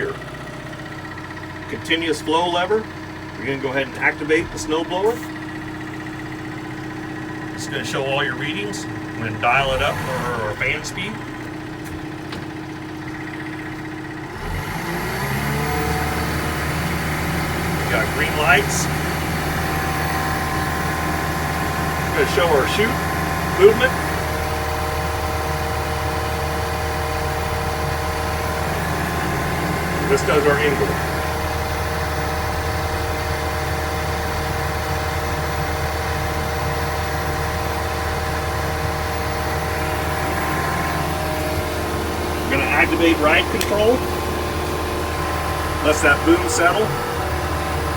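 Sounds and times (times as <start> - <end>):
diesel engine running: 0.0 - 47.9
multi-tone machine whine: 0.0 - 47.9.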